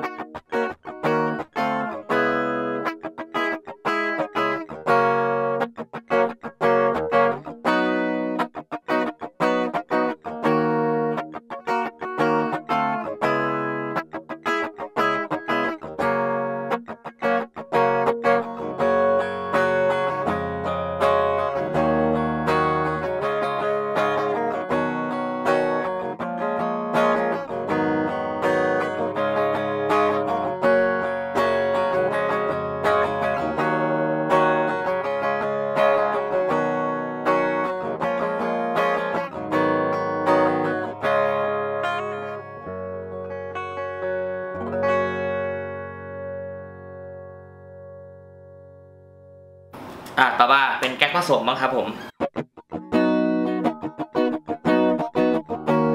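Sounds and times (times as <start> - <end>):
clean electric guitar: 0.0 - 55.9.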